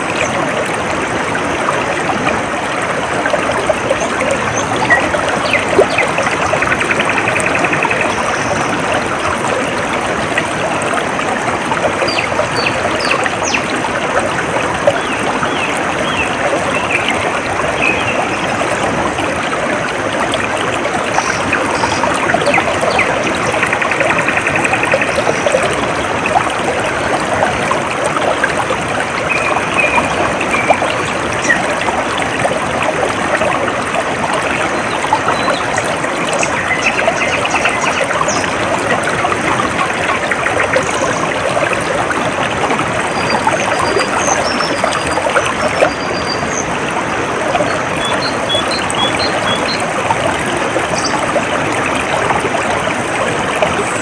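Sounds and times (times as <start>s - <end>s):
stream water babbling: 0.0s - 54.0s.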